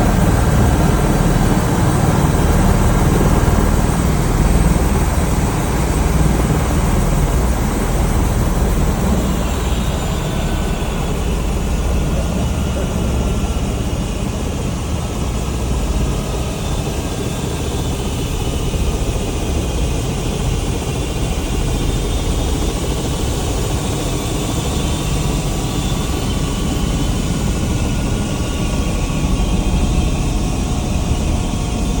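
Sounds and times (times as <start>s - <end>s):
helicopter engine and rotor: 0.0s - 32.0s.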